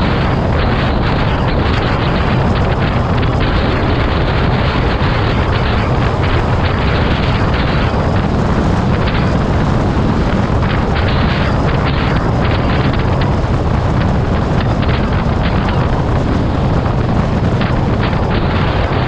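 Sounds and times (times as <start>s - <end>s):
vehicle rumble: 0.0s - 19.0s
wind buffeting microphone: 0.0s - 19.0s.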